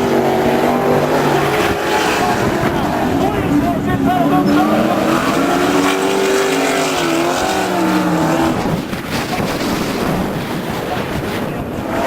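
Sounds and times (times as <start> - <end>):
race truck engine running hard: 0.0 - 12.0.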